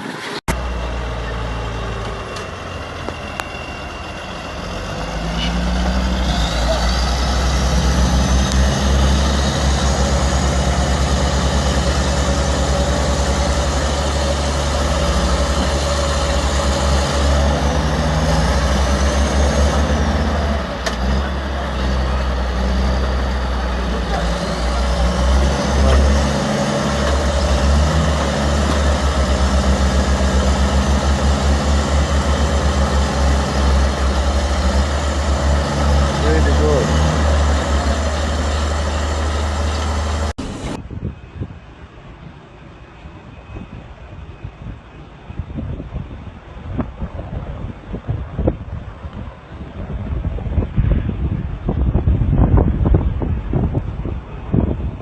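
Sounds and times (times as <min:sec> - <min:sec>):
heavy vehicle engine running: 0:00.0 - 0:55.0.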